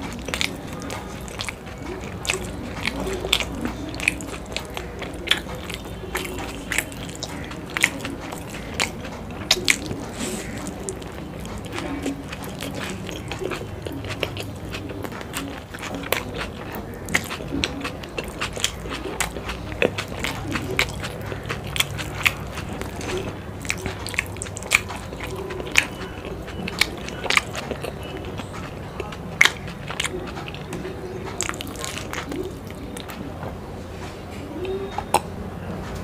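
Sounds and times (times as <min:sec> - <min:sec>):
close-miked wet chewing: 0:00.0 - 0:36.0.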